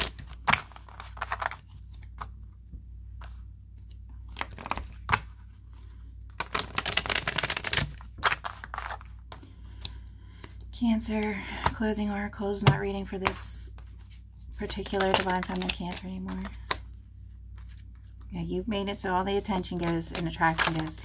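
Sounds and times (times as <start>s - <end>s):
cards shuffled by hand: 0.0s - 10.7s, 12.6s - 18.3s, 19.6s - 21.0s
low steady hum: 0.0s - 21.0s.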